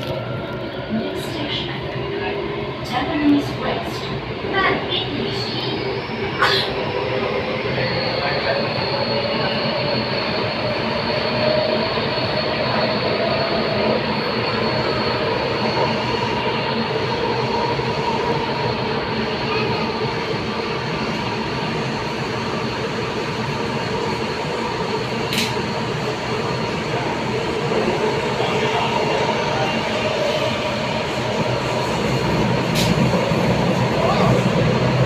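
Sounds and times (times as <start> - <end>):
metro train interior rumble: 0.0 - 35.0.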